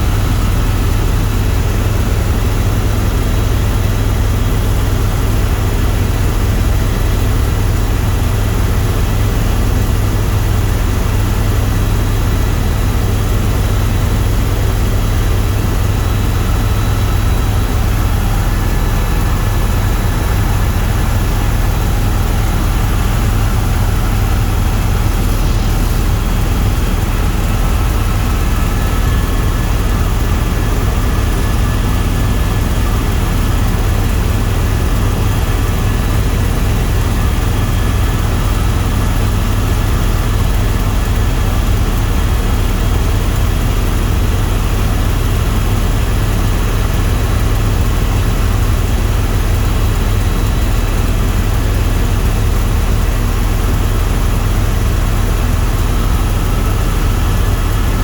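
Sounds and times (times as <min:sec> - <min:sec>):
helicopter engine and rotors drone: 0:00.0 - 0:58.0.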